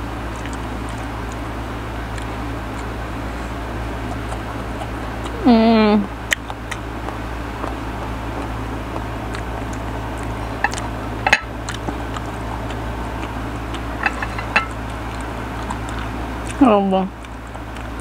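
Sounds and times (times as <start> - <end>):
steady background hum: 0.0 - 18.0
wet mouth eating sounds: 0.0 - 18.0.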